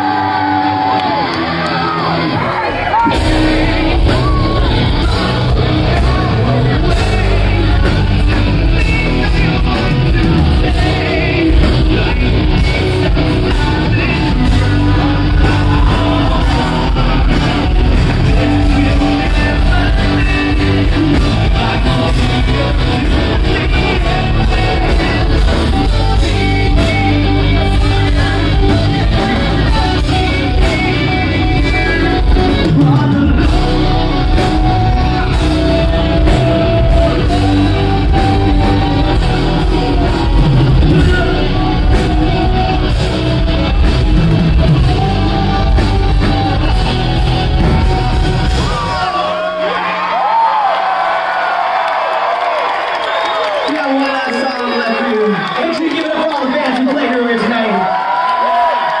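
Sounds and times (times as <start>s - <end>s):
live rock band playing: 0.0s - 49.7s
person singing: 0.0s - 49.8s
electric guitars: 0.0s - 55.6s
drums: 0.0s - 59.0s.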